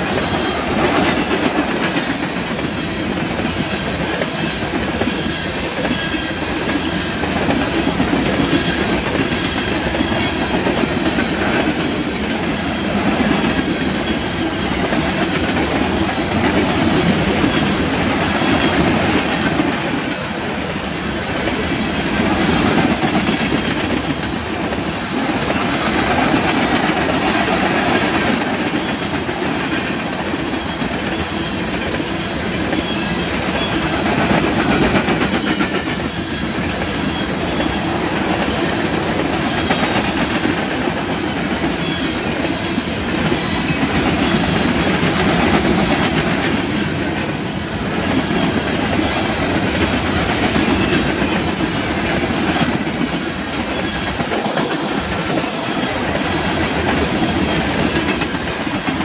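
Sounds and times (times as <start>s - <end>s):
clickety-clack over rail joints: 0.0s - 59.0s
freight train wheels rumbling: 0.0s - 59.0s.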